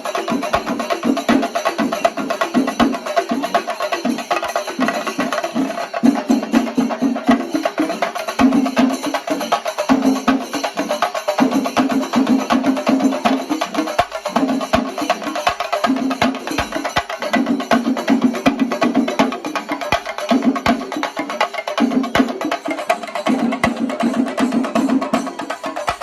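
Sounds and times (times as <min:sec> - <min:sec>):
drums beaten in fast strokes: 0:00.0 - 0:26.0.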